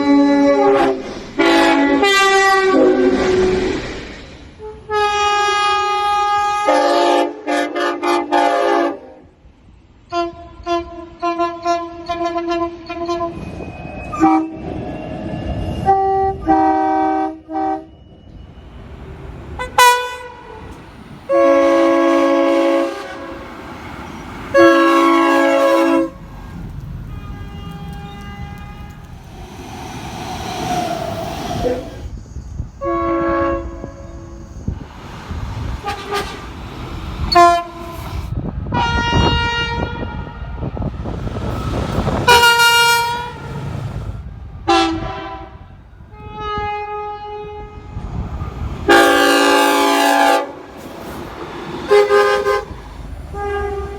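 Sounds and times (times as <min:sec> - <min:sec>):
locomotive air horns: 0:00.0 - 0:03.8, 0:04.6 - 0:09.3, 0:15.8 - 0:32.2, 0:32.8 - 0:53.9
train running noise: 0:00.0 - 0:08.8, 0:09.4 - 0:53.9.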